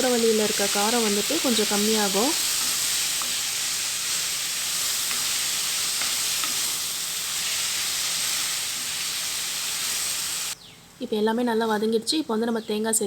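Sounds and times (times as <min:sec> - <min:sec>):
vegetables sizzling in oil: 0:00.0 - 0:10.6.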